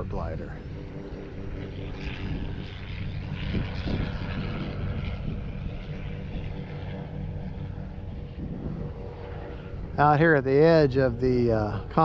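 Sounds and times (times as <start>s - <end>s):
model plane motor buzzing: 0.0s - 12.0s
wind gusting on microphone: 0.0s - 12.0s.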